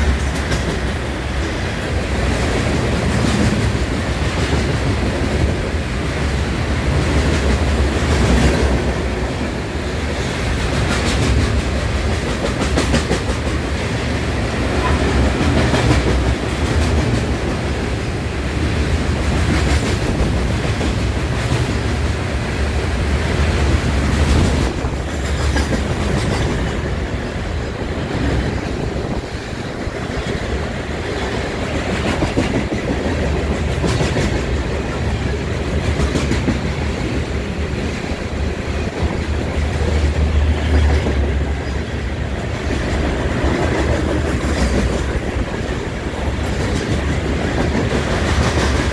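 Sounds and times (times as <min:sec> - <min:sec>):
rail clicks: 0:00.0 - 0:48.9
train wheels rumbling on rails: 0:00.0 - 0:48.9.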